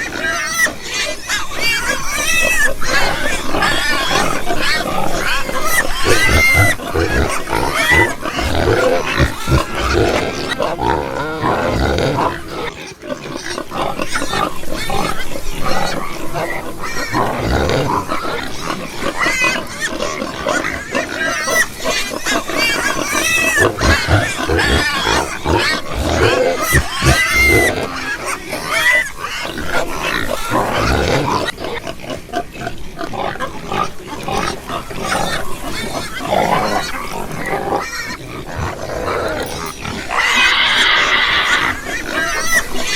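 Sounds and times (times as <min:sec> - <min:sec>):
pigs grunting: 0:00.0 - 0:42.9
pigs squealing: 0:00.0 - 0:42.9.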